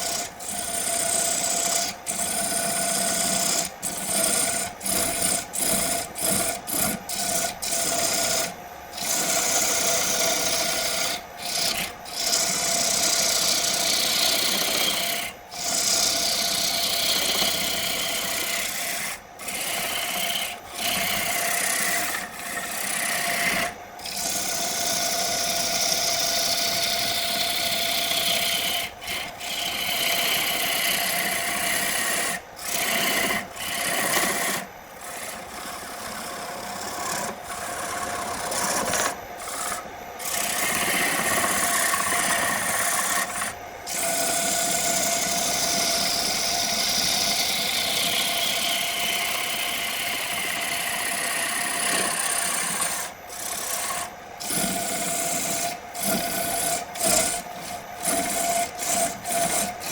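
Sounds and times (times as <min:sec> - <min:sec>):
lathe motor hum: 0:00.0 - 0:59.9
tool scraping spinning wood: 0:00.0 - 0:59.9.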